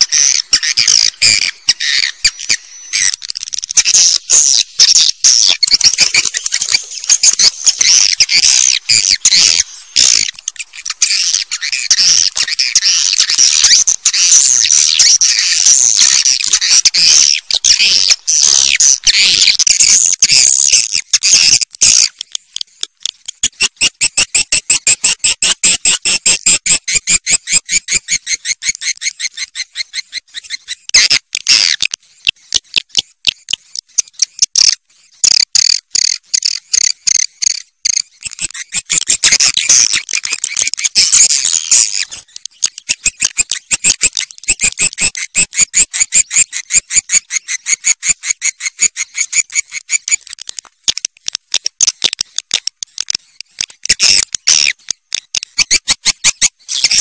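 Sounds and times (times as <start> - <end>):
swiftlet clicking chatter: 0.0 - 57.0.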